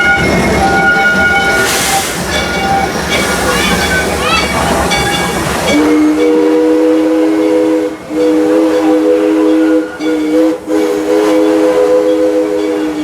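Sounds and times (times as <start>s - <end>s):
steam locomotive chime whistle: 0.0s - 13.0s.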